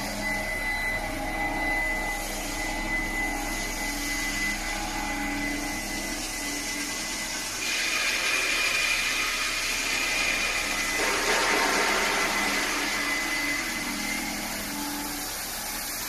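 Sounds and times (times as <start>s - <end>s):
washing machine motor whir: 0.0s - 16.0s.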